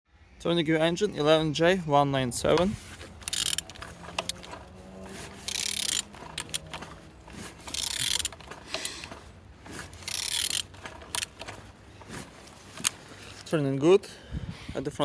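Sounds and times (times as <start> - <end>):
wrench scraping engine turning: 1.1 - 13.6.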